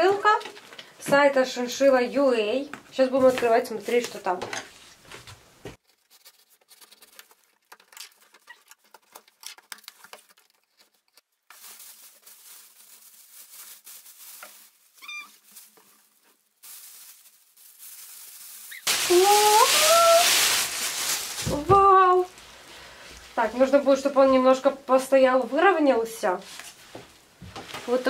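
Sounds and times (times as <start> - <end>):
plastic bag rustling: 3.2 - 24.2, 26.3 - 28.0.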